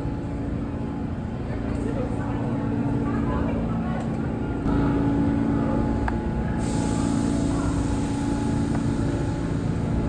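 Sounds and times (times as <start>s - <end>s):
subway train rumble: 0.0s - 10.0s.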